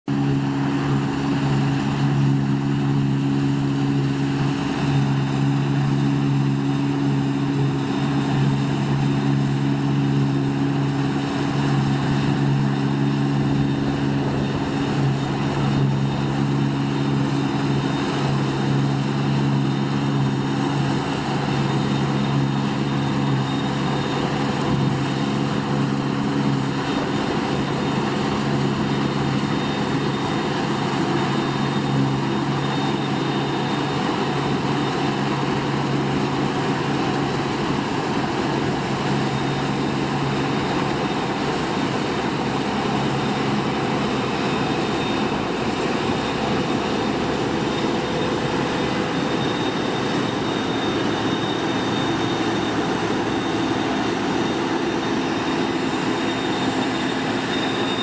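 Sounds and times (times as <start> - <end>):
combine harvester engine drone: 0.1 - 58.0
whirring threshing machinery: 0.1 - 58.0.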